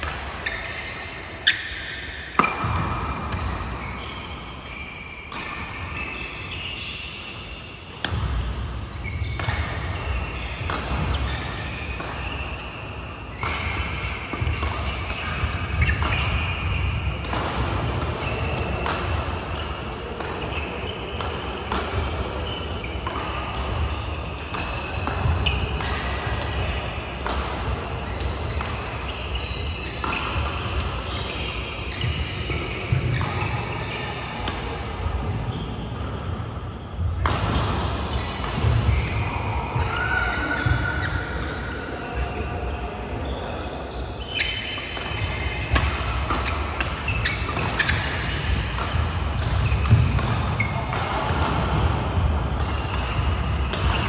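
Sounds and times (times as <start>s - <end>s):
rackets striking shuttlecocks: 0.0s - 4.1s, 5.3s - 6.4s, 7.1s - 41.9s, 44.3s - 54.0s.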